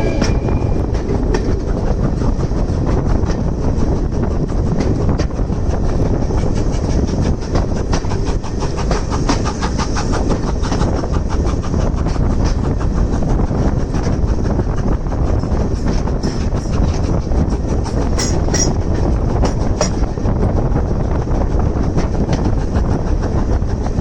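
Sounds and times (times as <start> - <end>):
train coaches rumbling: 0.0 - 24.0
wheels clacking over rails: 0.0 - 24.0.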